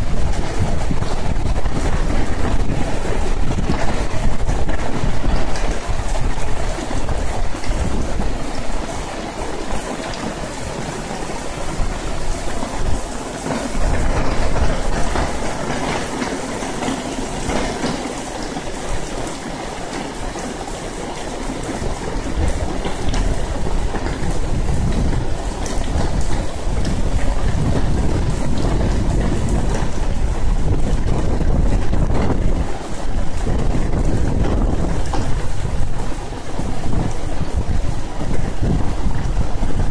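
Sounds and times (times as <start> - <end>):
heavy rain on pavement and cars: 0.0 - 39.9.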